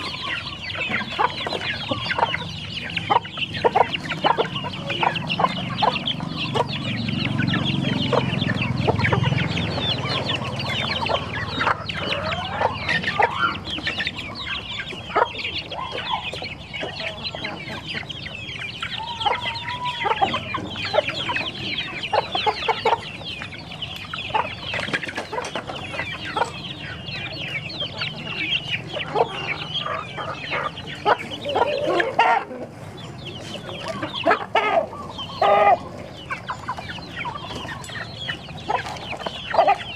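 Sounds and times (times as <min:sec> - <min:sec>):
chicken calls: 0:00.0 - 0:39.9
chicks peeping: 0:00.0 - 0:39.9
hens clucking: 0:00.0 - 0:39.9.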